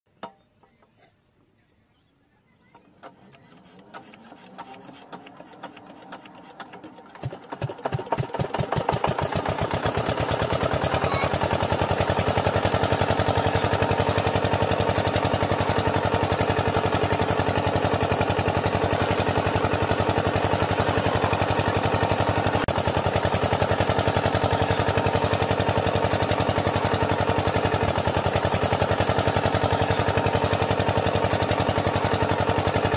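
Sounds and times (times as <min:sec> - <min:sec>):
diesel generator running: 0:02.5 - 0:32.9.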